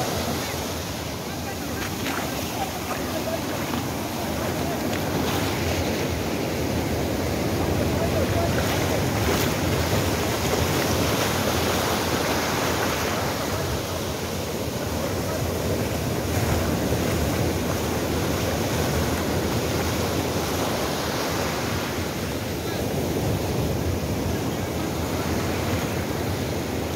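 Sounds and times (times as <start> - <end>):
sea surf breaking on shore: 0.0 - 26.9.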